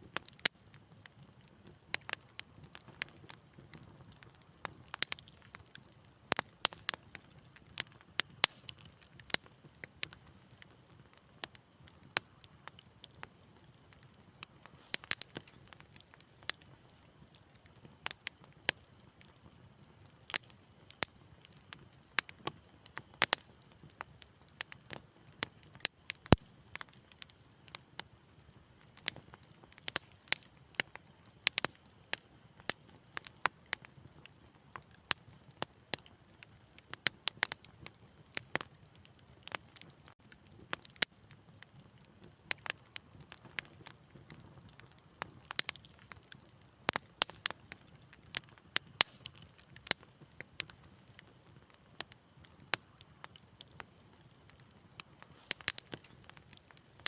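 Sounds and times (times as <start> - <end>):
faint hiss of burning: 0.0 - 57.0
wood fire pops and snaps: 0.0 - 57.0.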